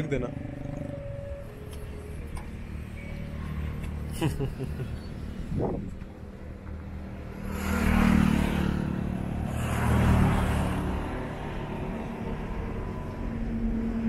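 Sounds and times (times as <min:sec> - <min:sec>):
road vehicles passing: 0:00.0 - 0:14.0.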